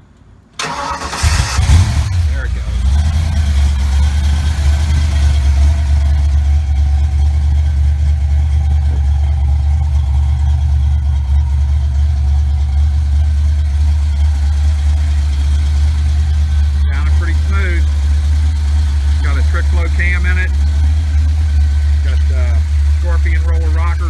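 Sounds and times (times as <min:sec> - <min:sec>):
car engine idling: 0:00.5 - 0:24.0.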